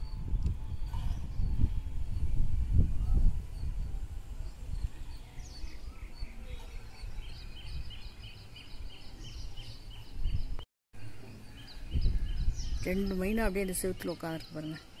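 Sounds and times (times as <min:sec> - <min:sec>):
birds chirping: 0:03.0 - 0:15.0.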